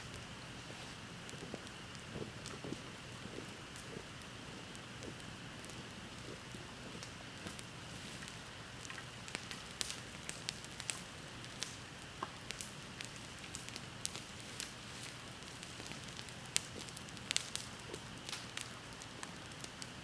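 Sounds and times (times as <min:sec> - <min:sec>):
bonfire crackling and popping: 0:00.0 - 0:20.0
fire soft hiss: 0:00.0 - 0:20.0.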